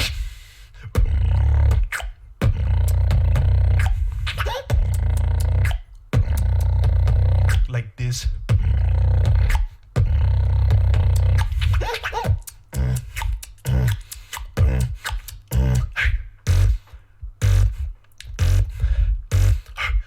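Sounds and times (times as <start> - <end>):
beatboxing: 0.0 - 20.0
deep vocal bass tone: 0.8 - 20.0
deep kicks and snare clicks: 1.0 - 19.7.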